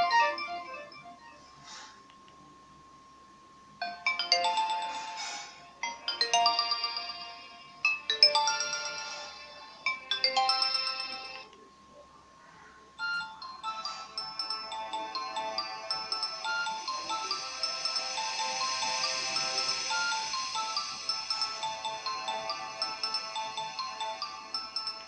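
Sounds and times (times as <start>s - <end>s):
mobile phone ringtone melody: 0.0s - 1.8s, 3.8s - 11.5s, 13.0s - 25.0s.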